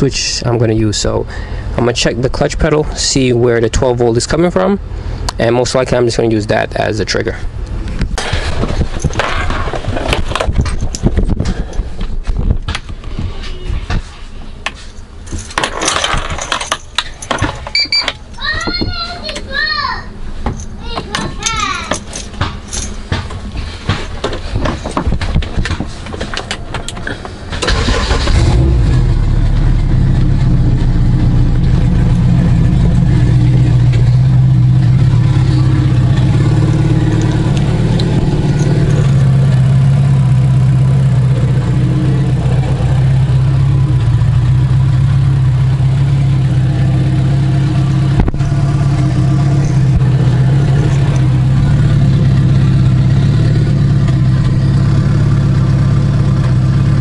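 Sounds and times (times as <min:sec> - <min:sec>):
car engine cranking and idling: 0:00.0 - 0:13.1, 0:14.7 - 0:57.0.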